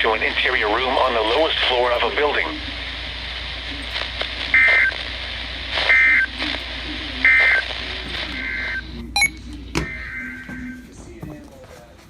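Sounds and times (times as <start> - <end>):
broadcast hum and hiss: 0.0 - 12.0.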